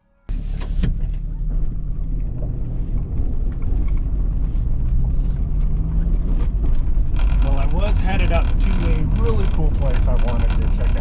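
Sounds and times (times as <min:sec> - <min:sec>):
engine and road rumble: 0:00.2 - 0:11.0.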